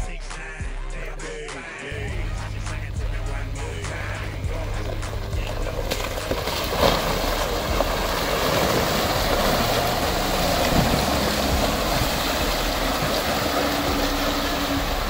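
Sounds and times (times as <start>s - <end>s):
diesel engine at low speed: 1.9s - 15.0s
tyres splashing through mud: 1.9s - 15.0s.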